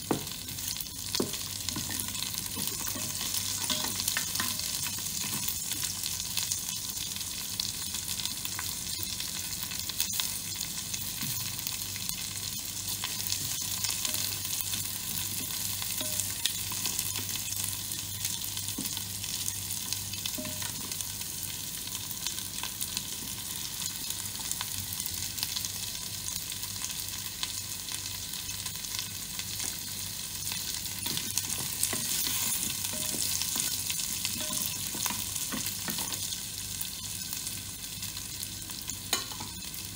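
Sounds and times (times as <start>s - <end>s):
spices sizzling in hot oil: 0.0s - 39.9s.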